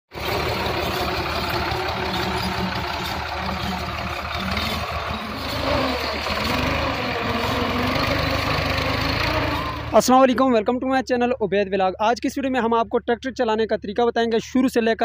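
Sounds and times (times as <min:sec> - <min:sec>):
tractor diesel engine running: 0:00.1 - 0:13.8.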